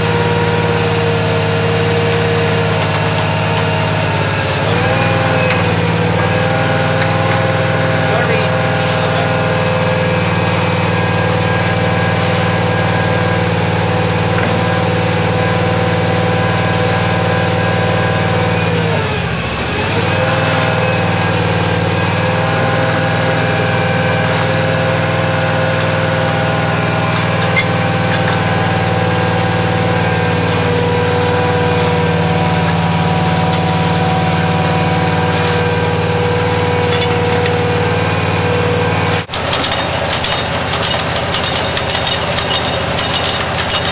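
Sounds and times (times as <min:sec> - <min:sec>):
drilling rig engine running: 0:00.0 - 0:43.9.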